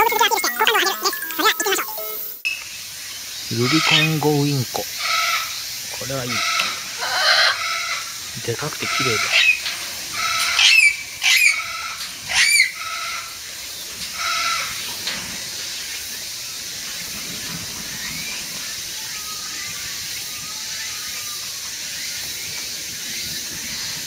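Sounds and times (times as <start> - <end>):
background hiss: 0.0 - 24.0
loud bird calls: 2.6 - 24.0.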